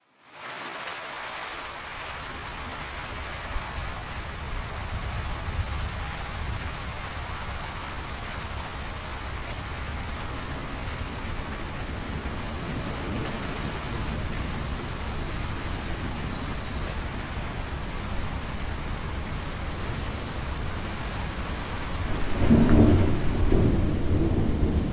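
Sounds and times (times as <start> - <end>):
steady rain hiss: 0.0 - 24.9
raindrop impacts: 2.5 - 24.9.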